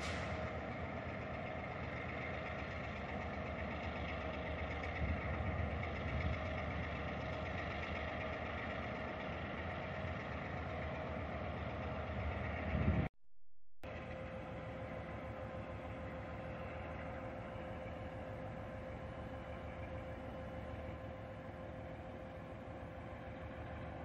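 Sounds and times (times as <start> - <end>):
diesel locomotive engine idling: 0.0 - 13.1, 13.8 - 24.0.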